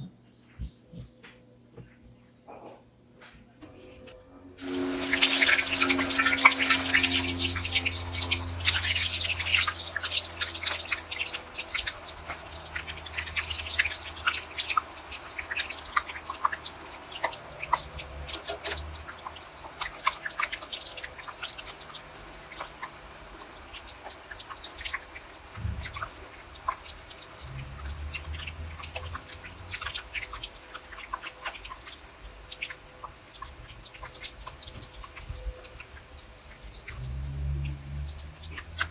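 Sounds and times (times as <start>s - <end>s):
low steady hum: 0.0s - 38.9s
hot oil crackling and popping: 4.6s - 38.9s.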